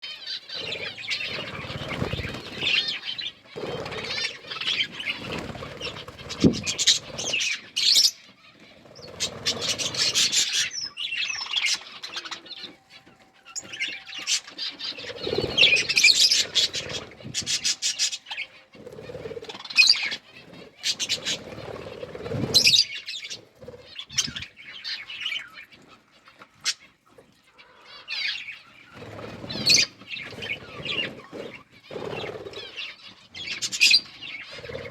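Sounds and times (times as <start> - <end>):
budgerigars chirping: 0.0 - 27.0, 27.6 - 34.9.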